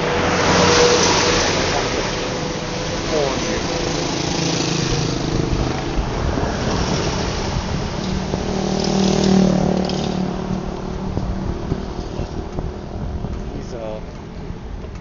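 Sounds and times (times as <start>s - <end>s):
passing vehicle engine: 0.0s - 15.0s
road traffic rush: 0.0s - 15.0s.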